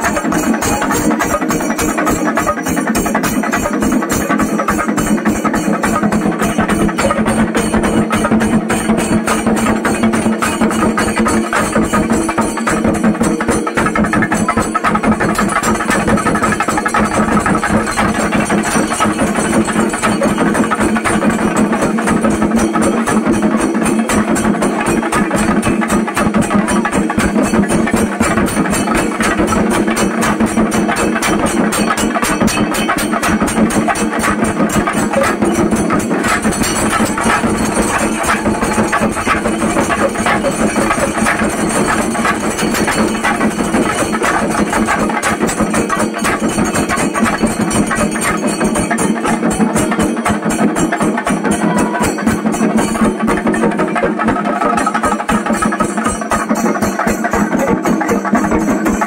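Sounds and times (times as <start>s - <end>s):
drums beaten with sticks: 0.0s - 59.0s.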